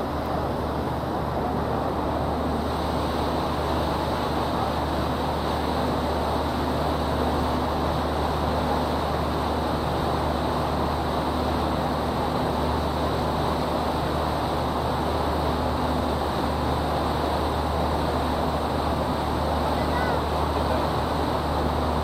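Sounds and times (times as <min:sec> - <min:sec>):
boat engine humming: 0:00.0 - 0:22.0
constant rushing noise: 0:00.0 - 0:22.0.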